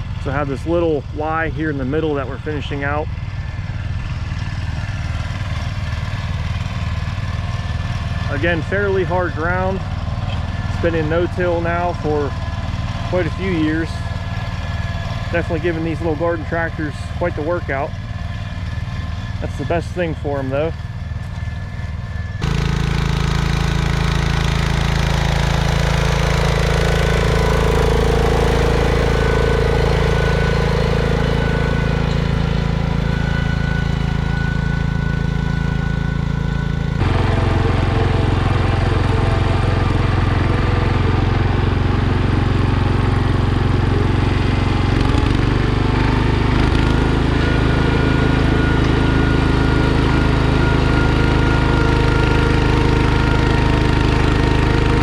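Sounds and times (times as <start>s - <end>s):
garden tractor engines running: 0.0s - 55.0s.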